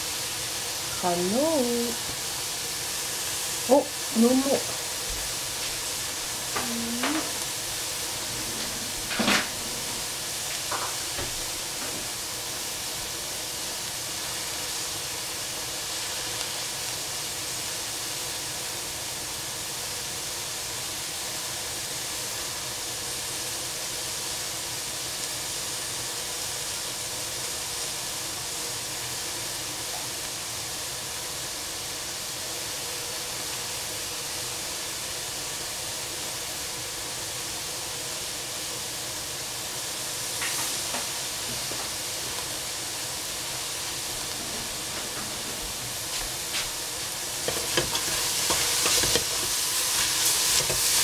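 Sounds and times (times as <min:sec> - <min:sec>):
food sizzling in a frying pan: 0:00.0 - 0:51.0.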